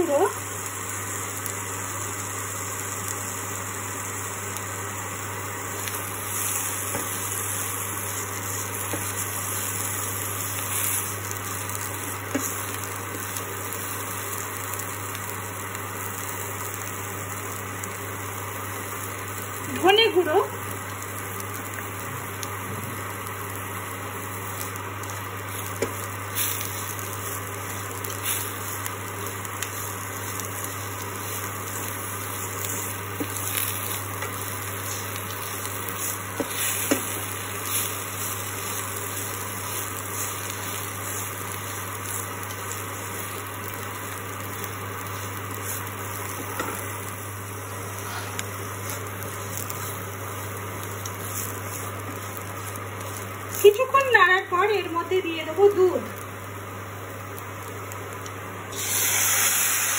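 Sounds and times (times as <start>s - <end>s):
steady low hum: 0.0s - 58.7s
faint sizzle: 0.0s - 59.9s.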